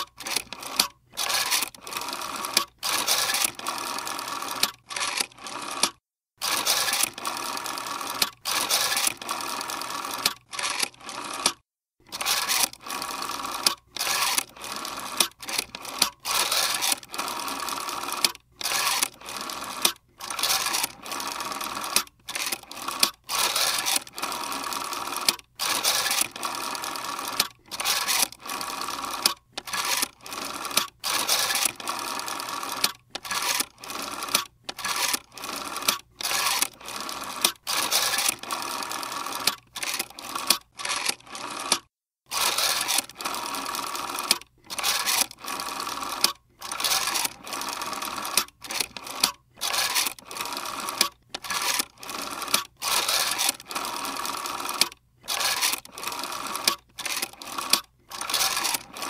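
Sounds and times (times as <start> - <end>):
rotary phone dial whirring: 0.0 - 59.0.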